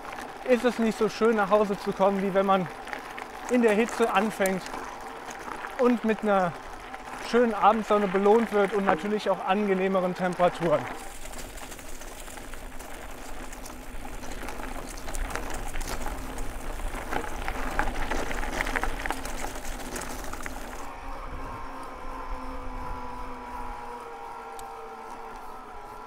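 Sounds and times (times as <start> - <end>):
crackling tyre rolling noise: 0.0 - 26.0
electric bike motor whine: 0.0 - 26.0.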